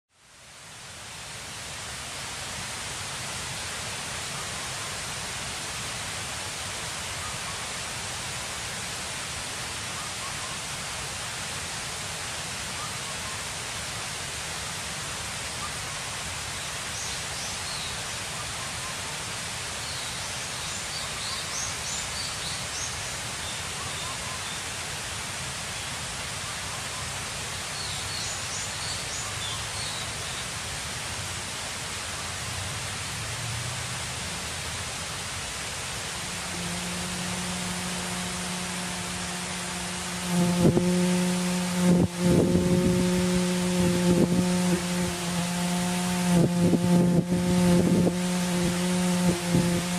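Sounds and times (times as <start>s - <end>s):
steady outdoor hiss: 0.1s - 49.9s.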